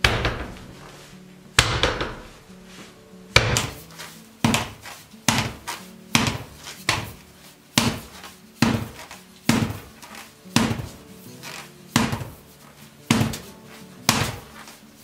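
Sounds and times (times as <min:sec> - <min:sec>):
wheel thudding on concrete: 0:00.0 - 0:00.9, 0:01.6 - 0:02.4, 0:03.4 - 0:15.0.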